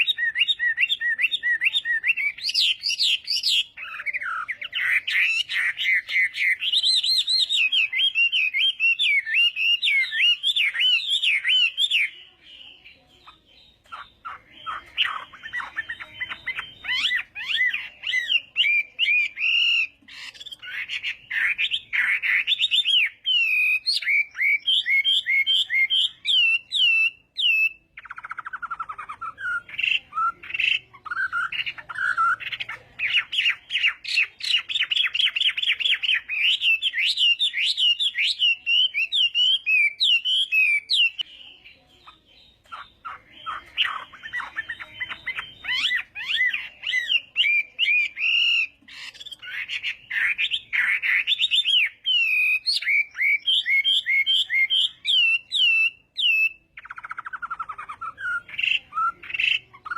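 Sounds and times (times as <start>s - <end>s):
bird singing with trills: 0.0s - 59.9s.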